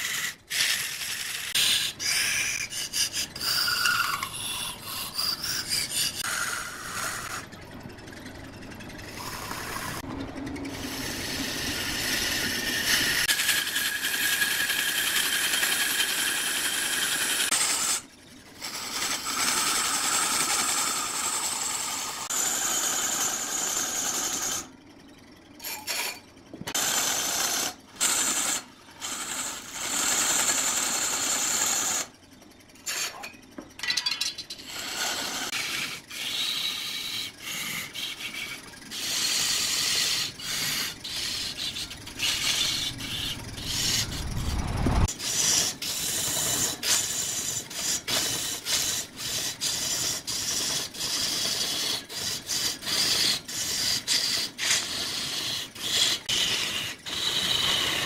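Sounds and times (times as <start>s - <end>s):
wood lathe turning: 0.0s - 33.6s, 34.2s - 58.0s
gouge scraping spinning wood: 0.0s - 58.0s.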